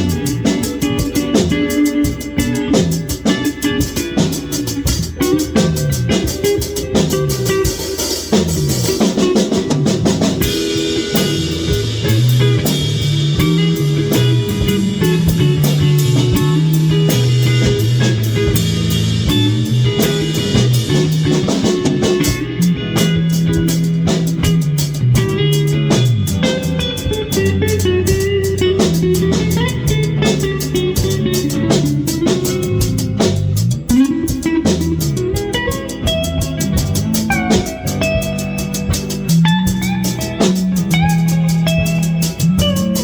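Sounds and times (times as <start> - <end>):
bass: 0.0 - 43.0
drum kit: 0.0 - 43.0
electric guitar: 0.0 - 43.0.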